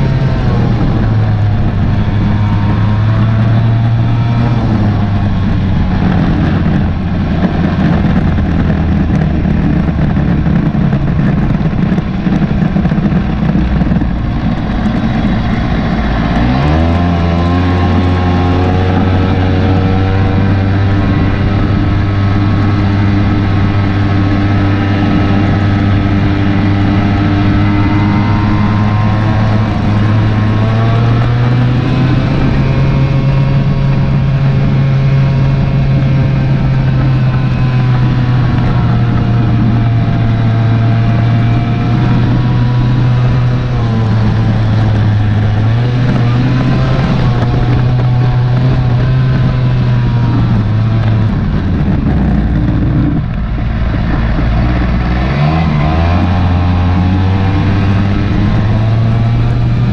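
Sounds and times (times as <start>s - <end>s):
quad bike engine under load: 0.0s - 59.9s.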